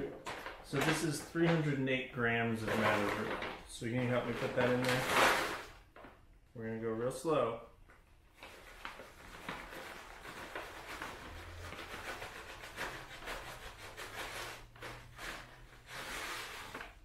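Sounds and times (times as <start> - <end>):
paper bag crackling: 0.0 - 5.9, 8.4 - 17.0.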